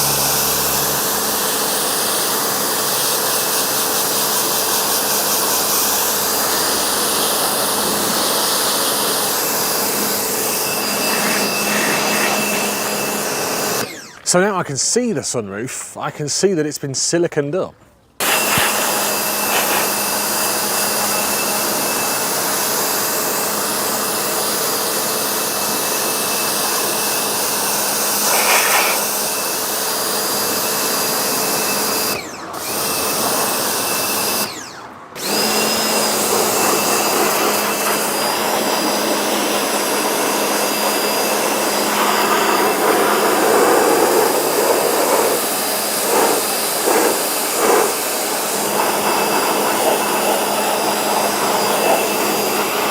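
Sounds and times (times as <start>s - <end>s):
vacuum cleaner running: 0.0s - 14.5s, 18.2s - 52.9s.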